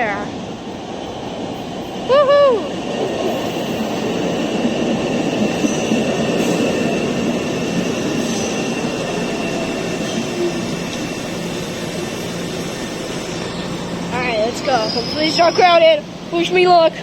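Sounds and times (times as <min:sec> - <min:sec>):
subway train wheels running slowly: 0:00.0 - 0:17.0.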